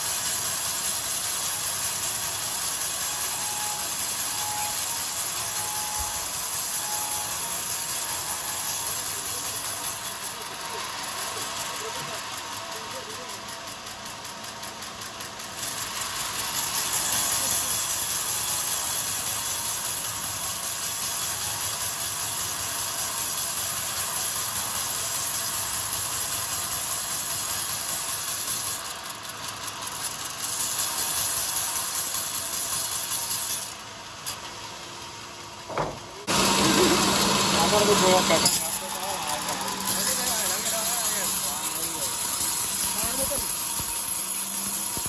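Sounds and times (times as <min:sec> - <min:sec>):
band saw cutting timber: 0:00.0 - 0:34.5, 0:35.6 - 0:45.0.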